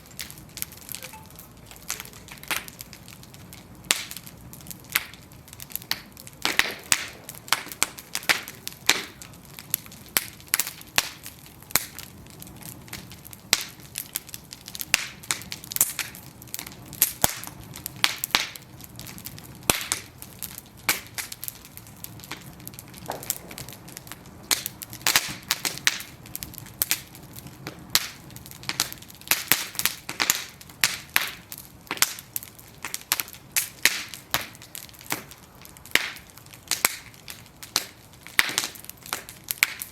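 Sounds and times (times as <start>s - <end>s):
bonfire crackling and popping: 0.0s - 39.9s
rush of flames: 0.0s - 39.9s.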